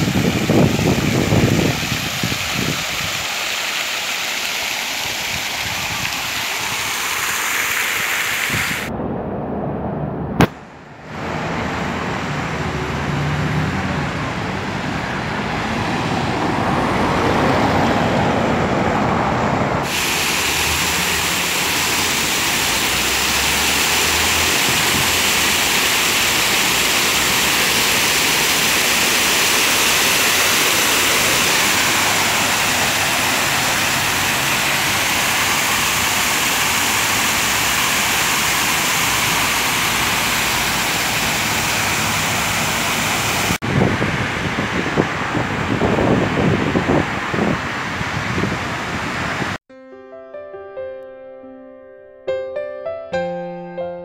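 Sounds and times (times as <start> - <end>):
fountain water splashing: 0.0 - 8.9, 10.6 - 17.8, 19.8 - 49.6.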